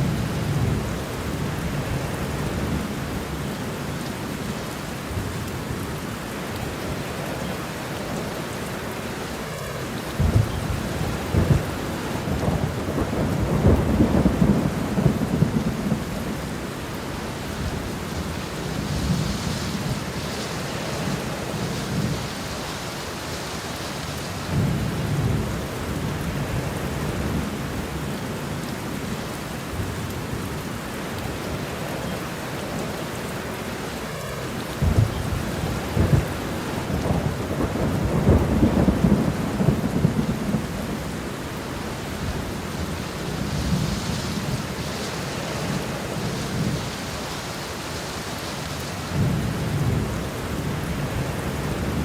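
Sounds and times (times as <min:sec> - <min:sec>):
distant rolling thunder: 0:00.0 - 0:29.1, 0:33.3 - 0:52.0
steady rain: 0:00.0 - 0:52.0.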